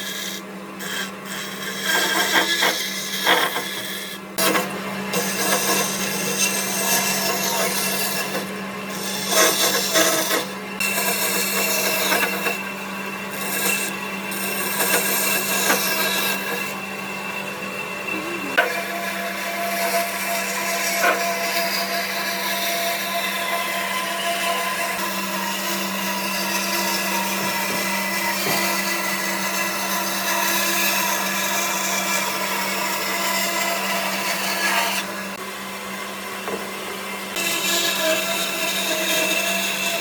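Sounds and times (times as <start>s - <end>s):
tool rasping on wood: 0.0s - 12.7s, 13.3s - 35.4s
steady motor hum: 0.0s - 40.0s.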